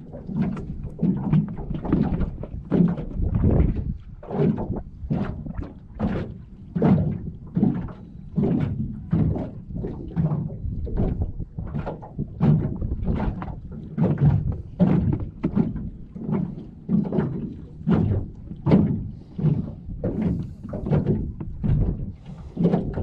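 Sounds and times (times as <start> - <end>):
waves slapping against boat hull: 0.0 - 23.0.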